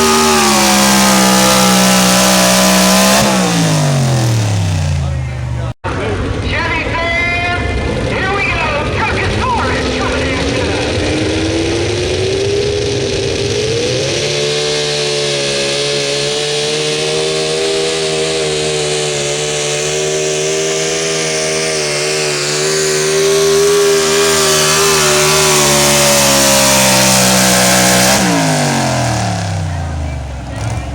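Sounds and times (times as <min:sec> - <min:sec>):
truck engine at high revs: 0:00.0 - 0:06.4, 0:07.6 - 0:30.9.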